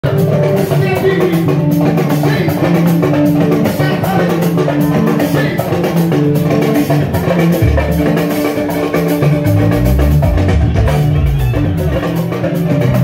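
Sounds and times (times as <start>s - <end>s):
drums: 0.0s - 13.0s
electric guitar: 0.0s - 13.0s
live band playing: 0.0s - 13.0s.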